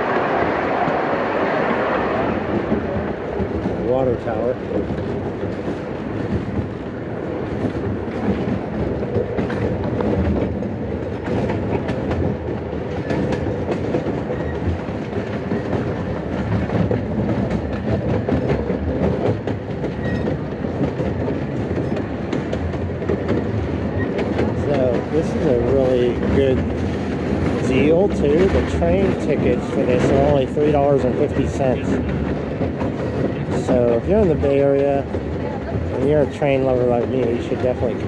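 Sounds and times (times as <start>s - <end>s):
train cars rolling on track: 0.0s - 38.0s
wheels clicking on rails: 0.0s - 38.0s.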